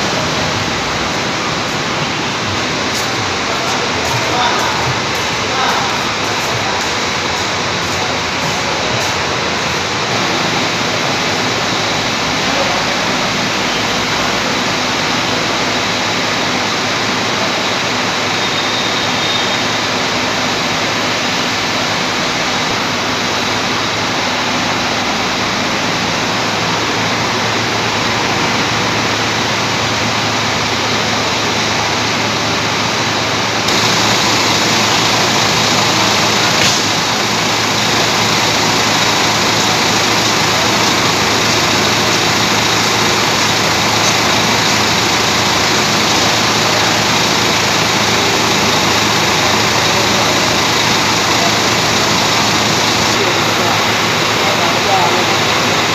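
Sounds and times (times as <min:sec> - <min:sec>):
air conditioning hum: 0:00.0 - 0:55.9
idling bus engines: 0:00.0 - 0:55.9.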